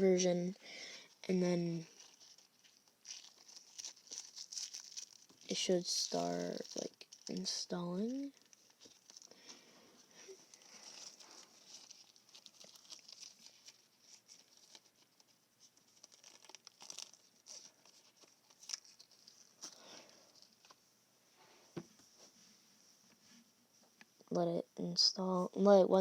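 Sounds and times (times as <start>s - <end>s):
faint rustling: 0.6s - 24.2s.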